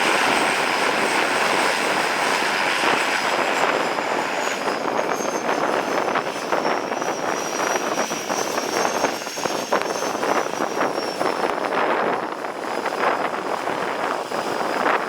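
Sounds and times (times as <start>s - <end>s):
propeller engines running: 0.0s - 15.0s.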